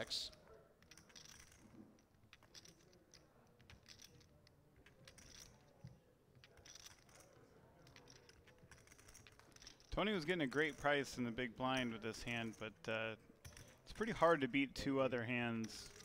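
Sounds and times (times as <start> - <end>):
clay poker chips clicking: 0.8 - 14.3.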